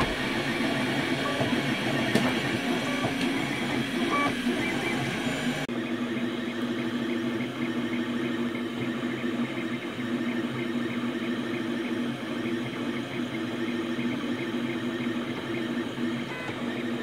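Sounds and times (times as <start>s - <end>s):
three-d printer motor humming: 0.0s - 17.0s.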